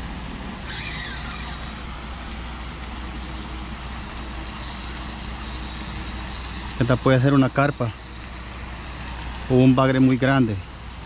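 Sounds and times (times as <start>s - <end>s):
low outdoor rumble and hiss: 0.0s - 11.0s.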